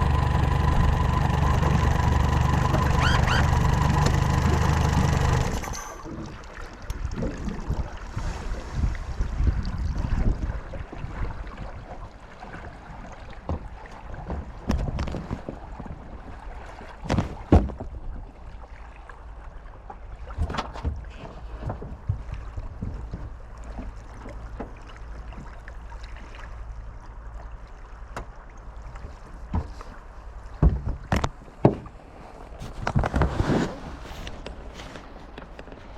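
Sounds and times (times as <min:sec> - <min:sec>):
outboard motor running: 0:00.0 - 0:08.0, 0:10.3 - 0:35.9.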